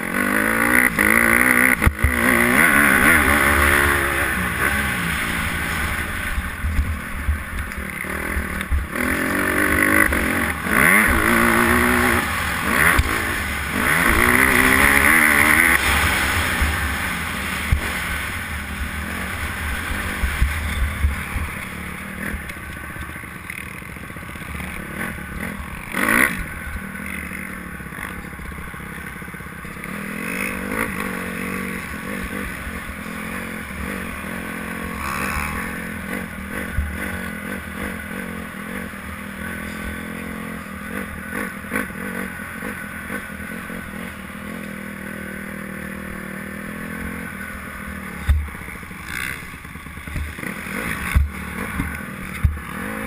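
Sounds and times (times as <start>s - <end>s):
motorbike engine revving: 0.0s - 53.0s.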